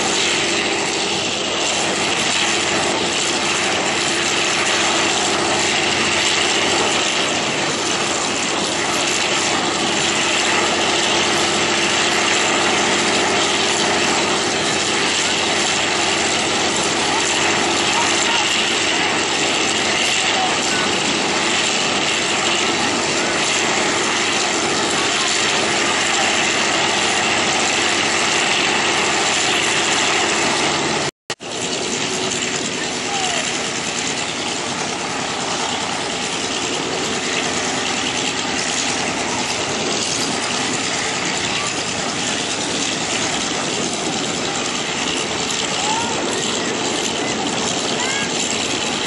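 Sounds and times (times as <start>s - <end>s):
piston aircraft engines running: 0.0s - 49.0s.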